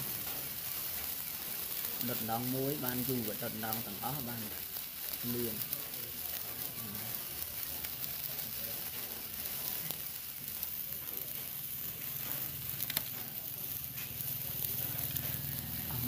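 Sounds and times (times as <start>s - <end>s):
sparkler crackling hiss: 0.0s - 16.0s.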